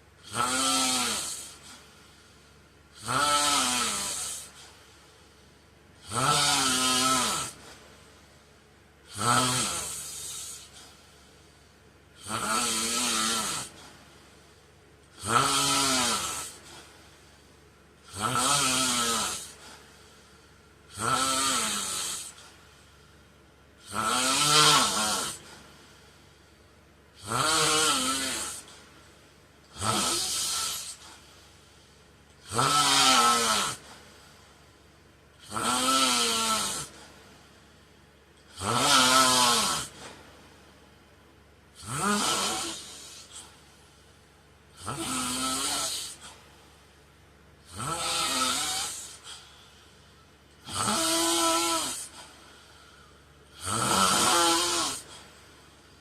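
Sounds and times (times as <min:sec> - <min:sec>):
man snoring: 0:00.2 - 0:08.3, 0:09.0 - 0:22.8, 0:23.8 - 0:29.0, 0:29.6 - 0:31.7, 0:32.3 - 0:34.7, 0:35.3 - 0:37.5, 0:38.4 - 0:40.2, 0:41.7 - 0:43.8, 0:44.7 - 0:46.6, 0:47.6 - 0:49.8, 0:50.5 - 0:56.0.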